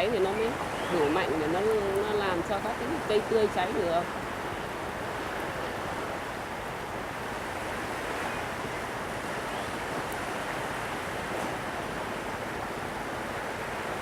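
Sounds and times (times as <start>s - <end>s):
sea surf rushing: 0.0s - 14.0s
wind: 0.0s - 14.0s.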